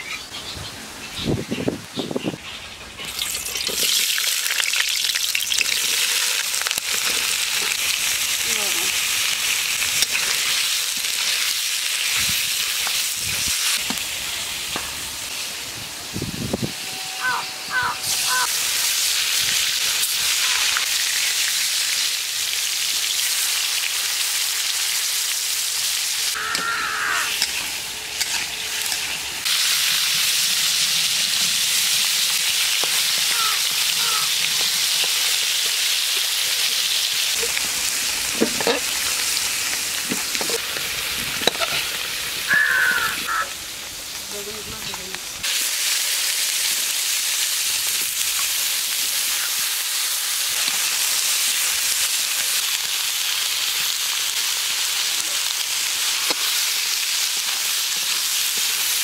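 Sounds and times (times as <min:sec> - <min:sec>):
oil sizzling in a wok: 0:03.0 - 0:59.0.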